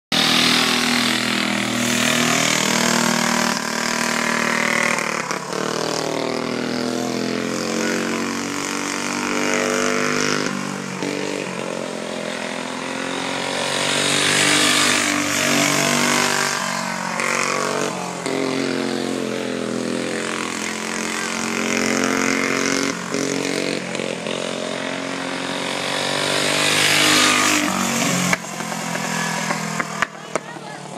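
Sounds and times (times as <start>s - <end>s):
go-kart engine revving: 0.1s - 30.9s.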